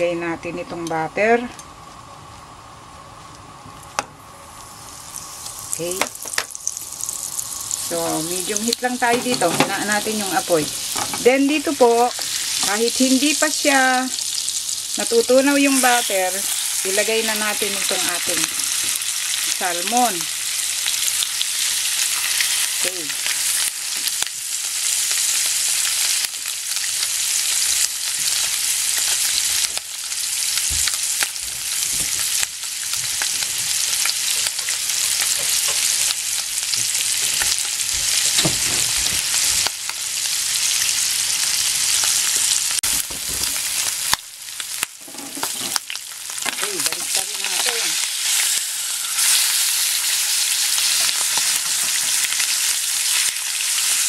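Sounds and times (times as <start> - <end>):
fish sizzling in oil: 2.2 - 54.0.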